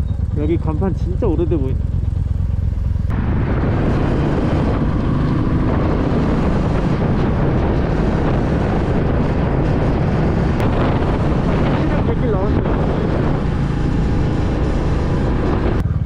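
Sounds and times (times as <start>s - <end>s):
motorcycle engine running: 0.0s - 16.0s
wind rushing over microphone: 3.1s - 16.0s.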